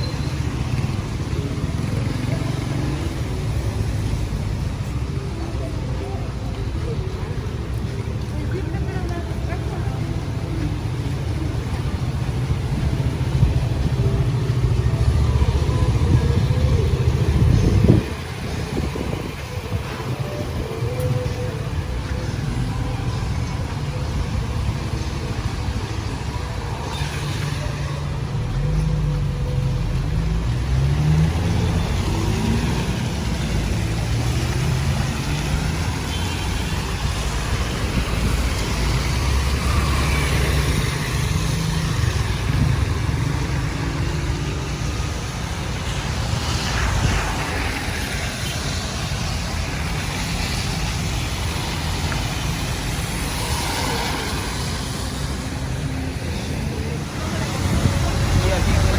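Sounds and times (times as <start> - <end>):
traffic on a wet street: 0.0 - 58.9.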